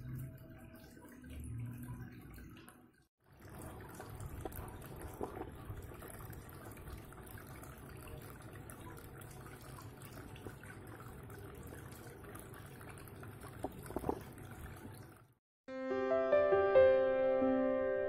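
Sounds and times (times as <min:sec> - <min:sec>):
fountain water trickling and splashing: 0:00.0 - 0:15.4.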